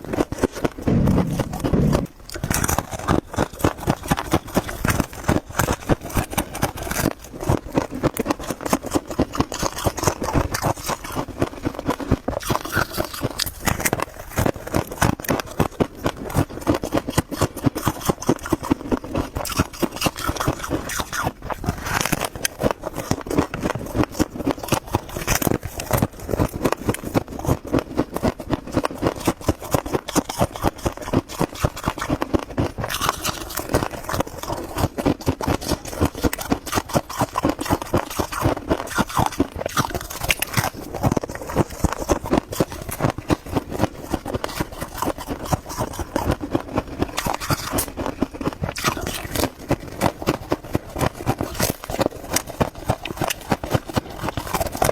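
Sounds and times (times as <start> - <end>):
frost being chewed: 0.0 - 54.9.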